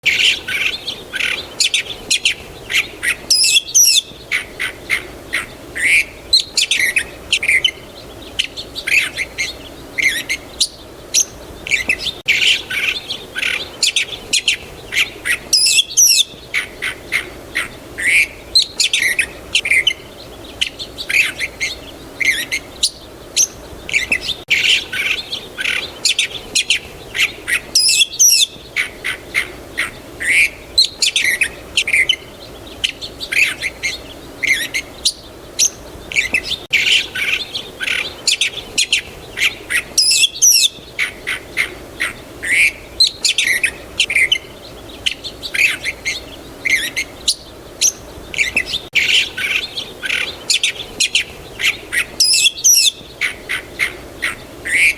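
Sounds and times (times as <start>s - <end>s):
faint background hiss: 0.0s - 54.9s
songbirds chirping: 0.0s - 54.9s.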